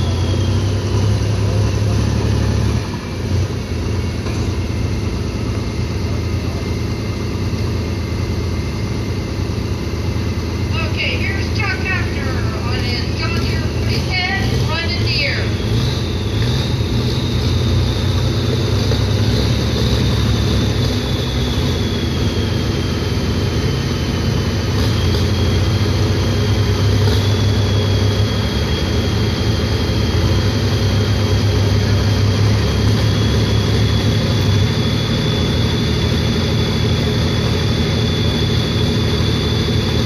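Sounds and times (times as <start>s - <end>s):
high engine whine: 0.0s - 40.0s
tractor engine droning: 0.0s - 40.0s.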